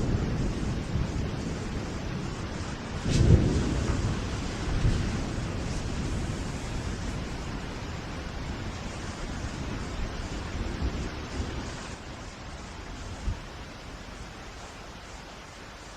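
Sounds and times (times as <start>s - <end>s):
thunder crack and rumble: 0.0s - 14.6s
steady rain: 0.0s - 15.9s.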